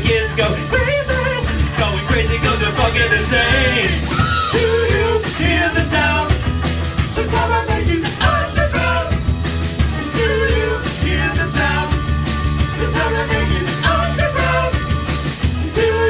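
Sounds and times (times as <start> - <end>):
man singing lead vocal: 0.0 - 9.2, 9.9 - 12.1, 12.7 - 14.9, 15.6 - 16.0
bass guitar: 0.0 - 16.0
drums: 0.0 - 16.0
electric guitar: 0.0 - 16.0.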